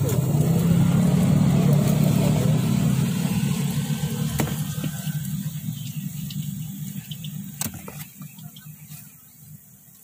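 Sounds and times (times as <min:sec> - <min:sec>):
motorbike engine running: 0:00.0 - 0:08.1.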